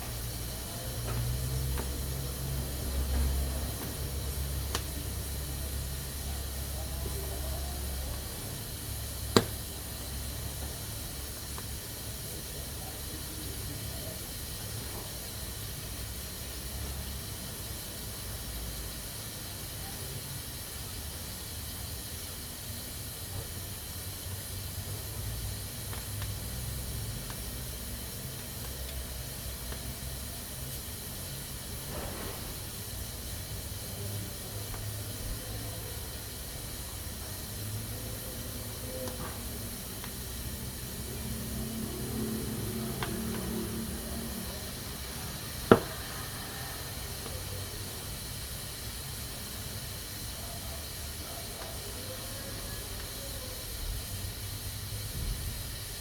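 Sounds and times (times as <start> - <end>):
pressure cooker hissing steam: 0.0 - 56.0.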